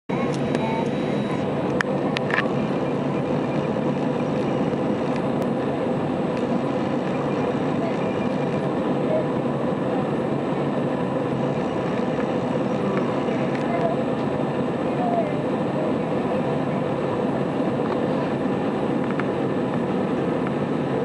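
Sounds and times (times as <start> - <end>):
faint steady hum: 0.1 - 21.0
jet engines at low thrust: 0.1 - 21.0.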